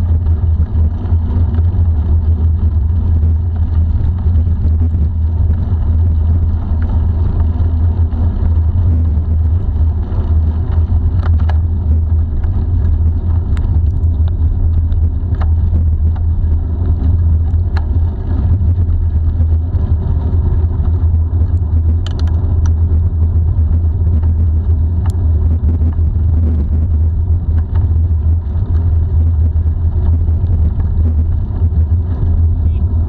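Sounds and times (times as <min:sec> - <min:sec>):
bicycle tyres rolling on asphalt: 0:00.0 - 0:33.0
bike clicks and rattles: 0:00.0 - 0:33.0.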